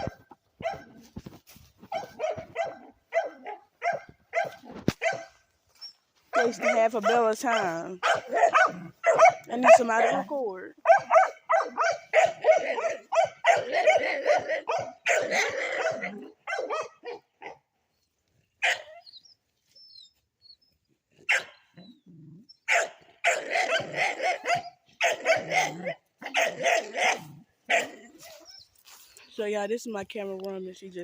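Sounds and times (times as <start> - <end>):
dog barking and yelping: 0.0 - 17.7, 18.6 - 20.0, 21.1 - 29.0.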